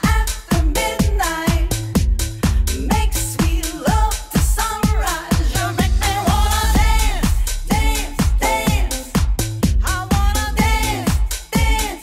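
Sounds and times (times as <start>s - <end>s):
four-on-the-floor kick drum: 0.0s - 12.0s
house music: 0.0s - 12.0s.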